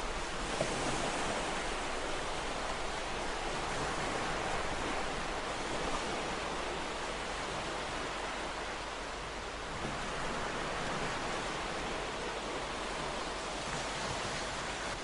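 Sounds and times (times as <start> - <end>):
ocean waves washing onto shore: 0.0 - 15.0.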